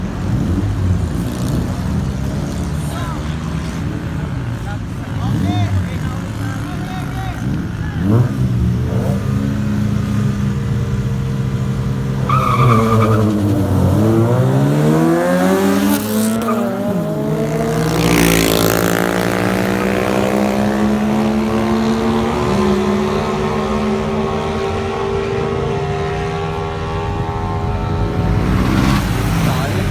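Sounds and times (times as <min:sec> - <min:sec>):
car engines revving: 0:00.0 - 0:29.9.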